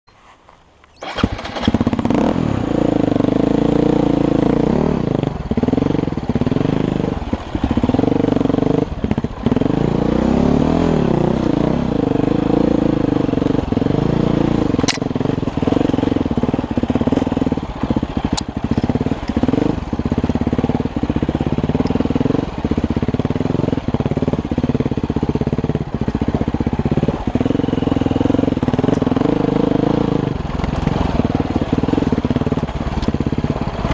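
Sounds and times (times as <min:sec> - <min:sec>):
vehicle engine running: 0:01.0 - 0:33.9.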